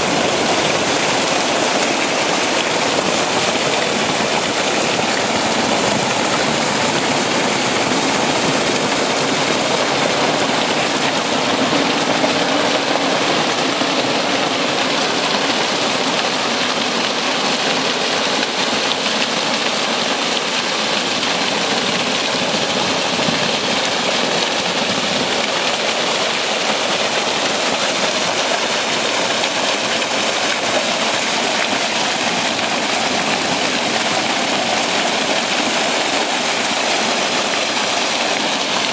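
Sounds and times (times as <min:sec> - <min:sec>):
spring water rushing over rocks: 0:00.0 - 0:38.9.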